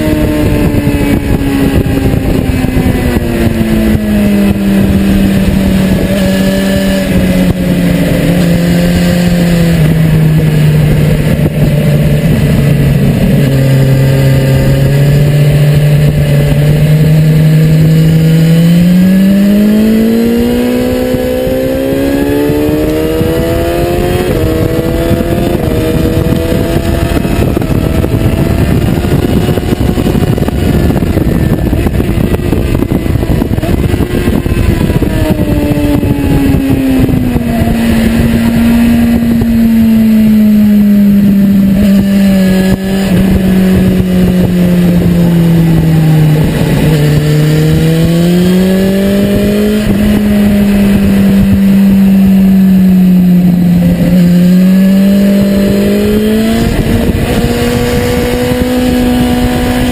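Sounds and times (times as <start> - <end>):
motorcycle engine revving high: 0.0 - 59.9
wind noise: 0.0 - 59.9.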